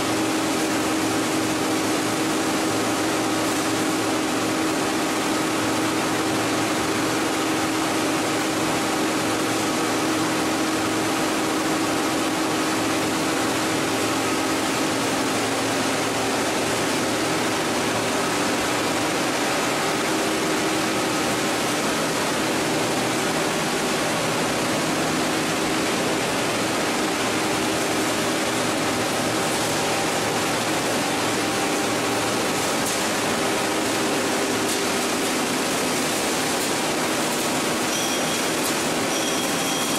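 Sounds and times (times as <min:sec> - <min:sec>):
washing machinery din: 0:00.0 - 0:39.9.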